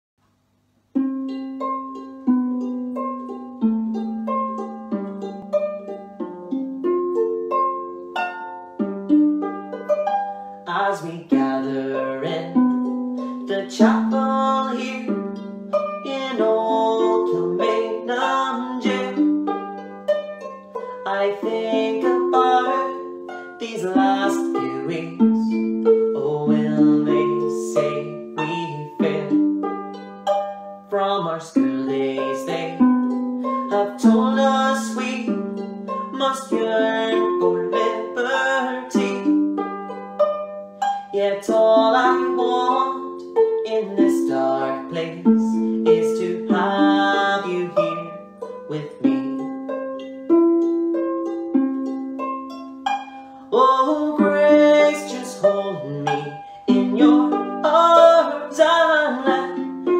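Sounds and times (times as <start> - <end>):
harp playing: 0.9 - 59.9.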